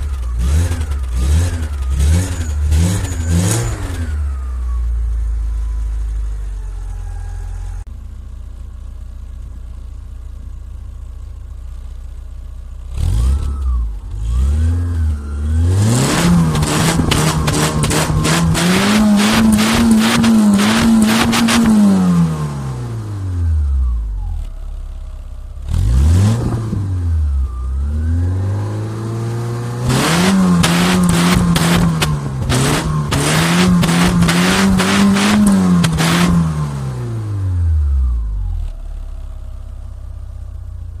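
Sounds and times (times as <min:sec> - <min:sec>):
car engine revving: 0:00.0 - 0:07.9, 0:12.8 - 0:24.6, 0:25.5 - 0:38.8.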